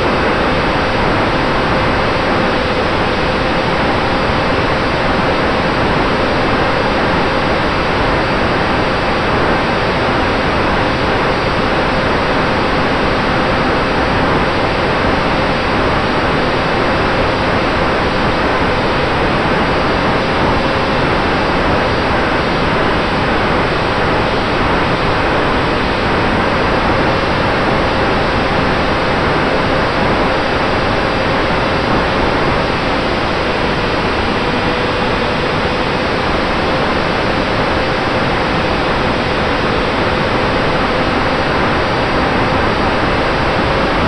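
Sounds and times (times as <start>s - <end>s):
motor and propeller whine: 0.0s - 44.0s.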